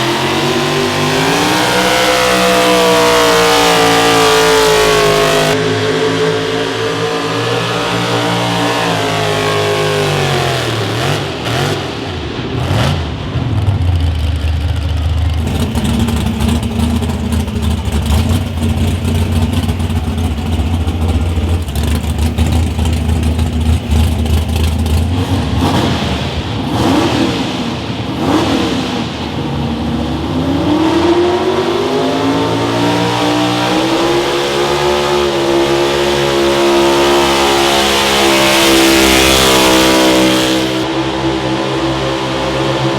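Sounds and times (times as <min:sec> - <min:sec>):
loud pulling vehicle engine: 0:00.0 - 0:42.9.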